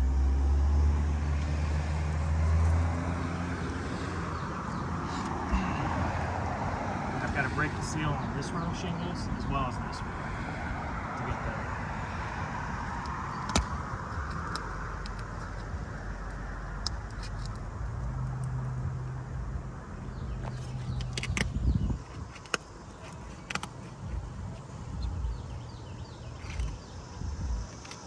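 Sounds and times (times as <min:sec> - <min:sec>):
low engine hum: 0:00.0 - 0:28.0
vehicle passing: 0:00.0 - 0:28.0.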